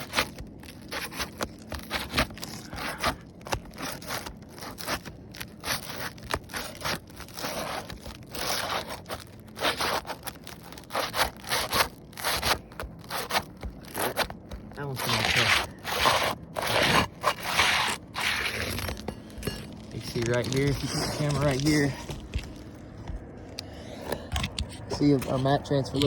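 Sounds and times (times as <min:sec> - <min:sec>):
pry tool scraping shingles: 0:00.0 - 0:22.9
shingles rustling and crackling: 0:00.0 - 0:26.0.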